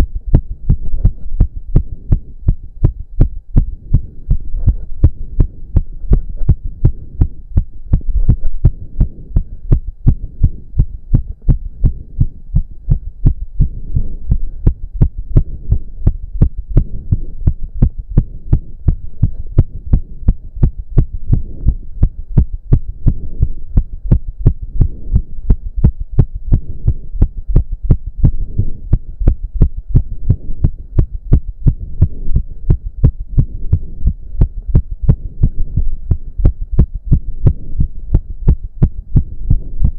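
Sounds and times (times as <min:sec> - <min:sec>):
fast heartbeat: 0:00.0 - 0:39.9.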